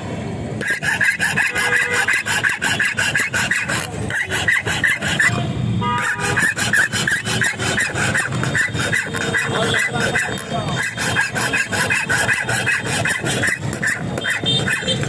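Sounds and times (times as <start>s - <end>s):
metal scraping on metal: 0.6s - 15.0s.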